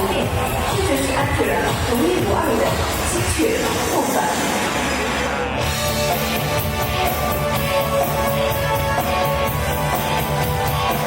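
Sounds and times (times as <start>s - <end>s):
rock music over loudspeakers: 0.0s - 11.0s.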